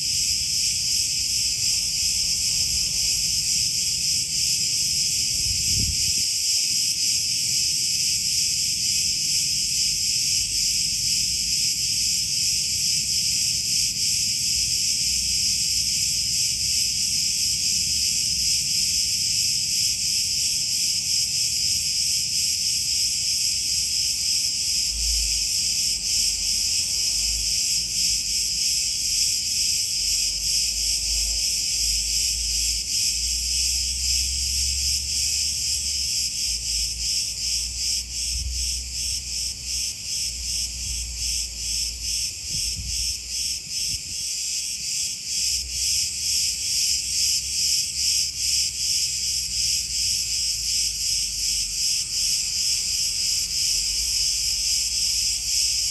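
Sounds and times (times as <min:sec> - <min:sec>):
cicadas buzzing: 0:00.0 - 0:55.9.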